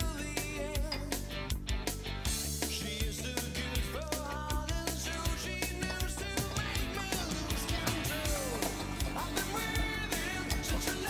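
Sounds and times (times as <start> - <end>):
guitar rock music with drums: 0.0 - 11.0.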